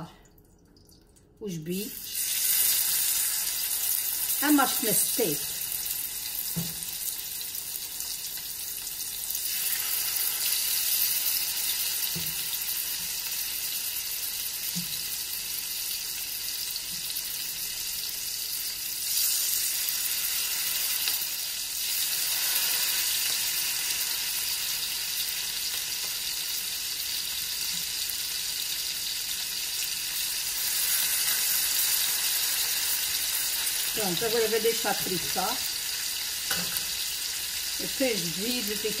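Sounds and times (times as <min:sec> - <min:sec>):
steaks sizzling in a pan: 0:02.1 - 0:39.0.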